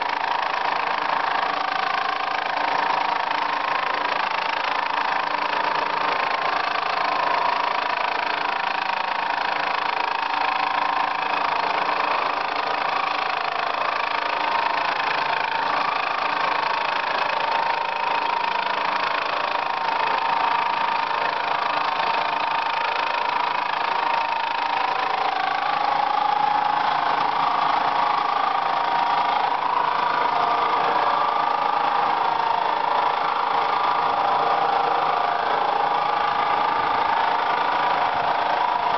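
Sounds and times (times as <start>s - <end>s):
high whine from spindle: 0.0s - 38.9s.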